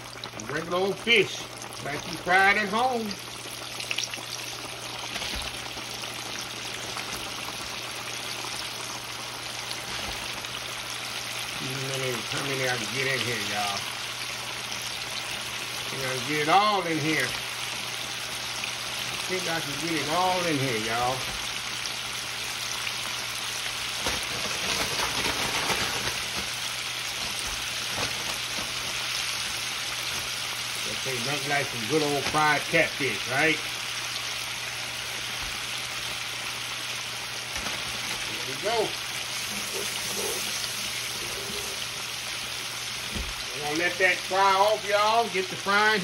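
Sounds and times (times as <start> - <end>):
fish deep-frying in oil: 0.0 - 46.0.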